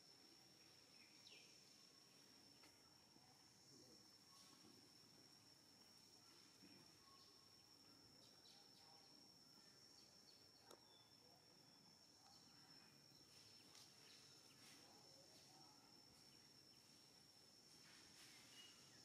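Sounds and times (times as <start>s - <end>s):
faint chirps: 0.0s - 19.0s.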